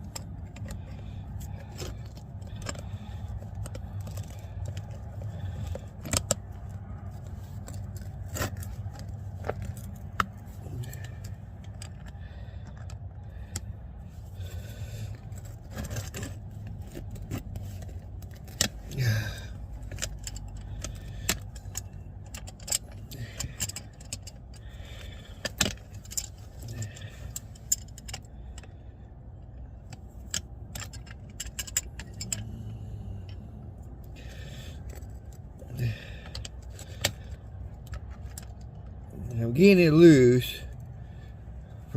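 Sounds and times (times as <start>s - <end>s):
metal tools clinking and scraping: 0.0s - 41.9s
steady low hum: 0.0s - 41.9s.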